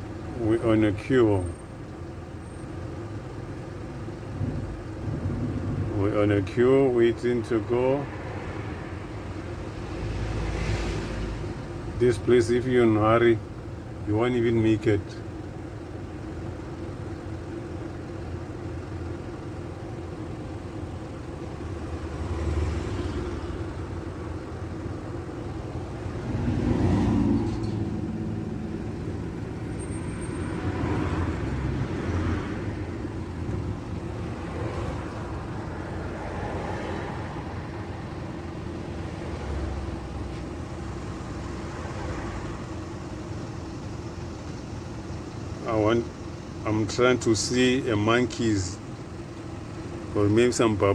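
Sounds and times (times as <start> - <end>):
car engine idling: 0.0 - 50.9
passing vehicles road noise: 0.0 - 50.9.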